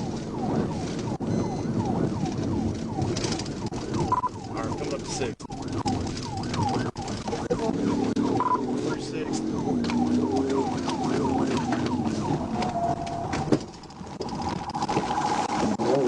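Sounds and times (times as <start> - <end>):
police siren yelp: 0.0 - 13.6
steady siren tone: 0.0 - 16.0.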